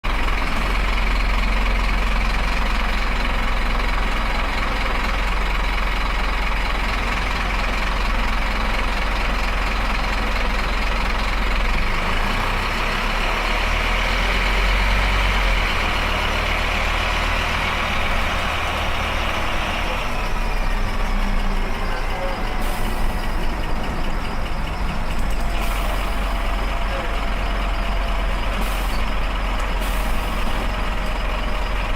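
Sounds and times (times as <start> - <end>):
bus diesel engine rumbling: 0.0 - 31.9.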